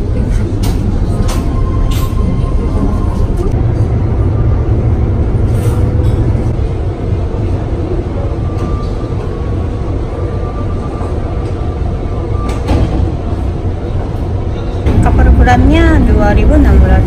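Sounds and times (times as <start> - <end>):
ship engines rumbling: 0.0 - 17.0.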